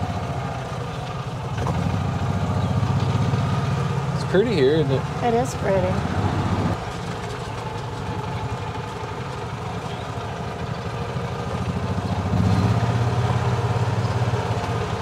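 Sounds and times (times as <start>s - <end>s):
golf cart engine running: 0.0s - 15.0s.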